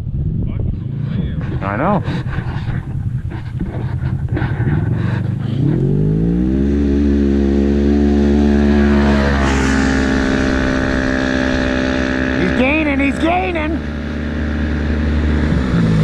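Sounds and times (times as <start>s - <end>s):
off-road vehicle engines revving: 0.0s - 16.0s
tyre and dirt rush: 0.2s - 16.0s.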